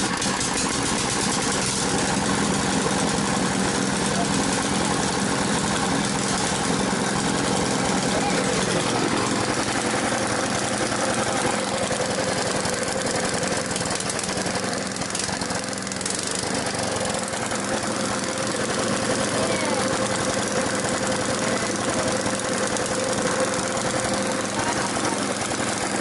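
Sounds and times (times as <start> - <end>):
engine chugging: 0.0 - 26.0.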